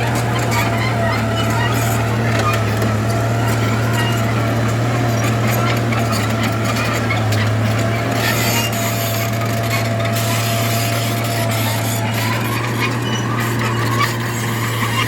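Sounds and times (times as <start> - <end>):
bulldozer diesel engine droning: 0.0 - 15.0
bulldozer scraping and grinding: 0.0 - 15.0.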